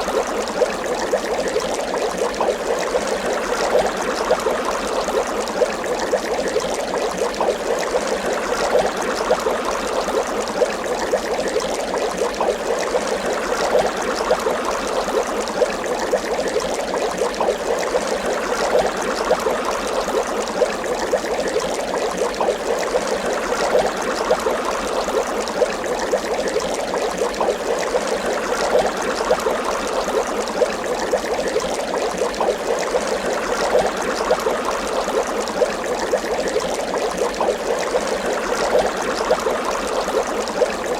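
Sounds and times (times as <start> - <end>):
water bubbling: 0.0 - 40.9.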